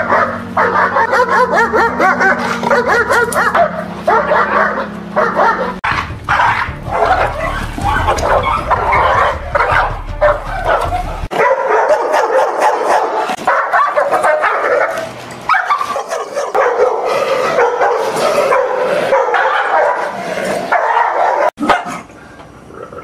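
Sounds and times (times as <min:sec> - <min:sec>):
dog barking: 0:00.0 - 0:22.1.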